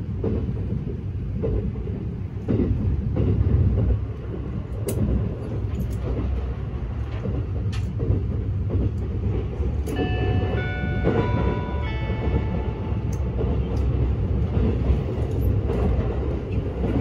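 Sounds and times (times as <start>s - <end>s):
train running rumble: 0.0s - 17.0s.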